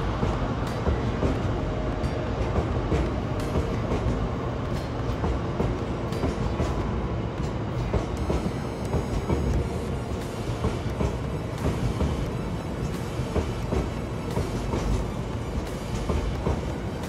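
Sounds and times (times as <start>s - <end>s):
freight train rumbling: 0.0s - 17.0s
wheels clicking over rail joints: 0.0s - 17.0s.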